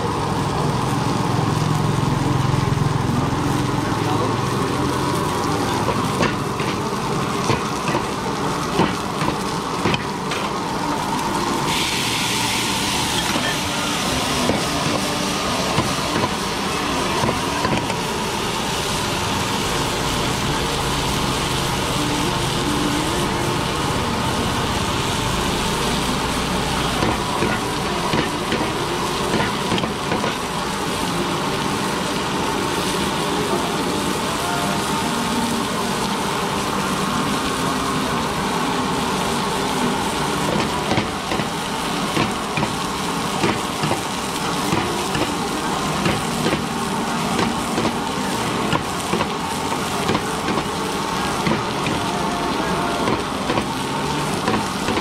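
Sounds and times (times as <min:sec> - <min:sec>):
cutlets sizzling on a griddle: 0:00.0 - 0:55.0
food frying in a pan: 0:00.0 - 0:55.0.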